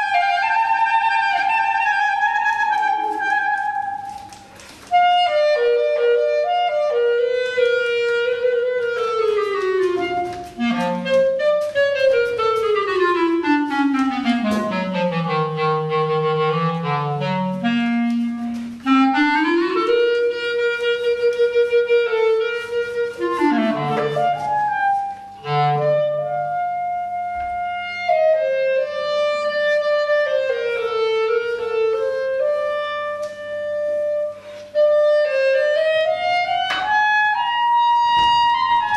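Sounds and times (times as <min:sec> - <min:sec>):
solo clarinet: 0:00.0 - 0:38.9.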